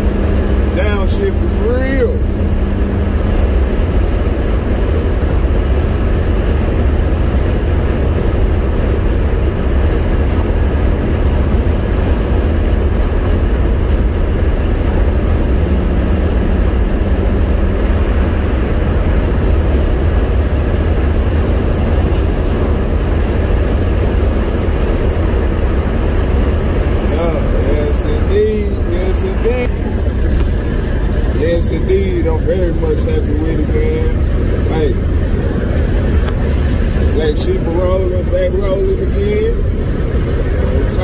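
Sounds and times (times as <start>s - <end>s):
car interior road rumble: 0.0s - 41.0s.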